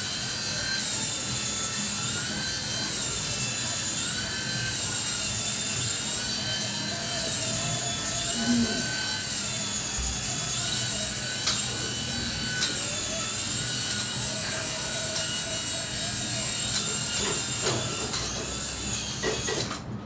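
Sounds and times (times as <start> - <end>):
toy rotor motor whine: 0.0 - 19.9.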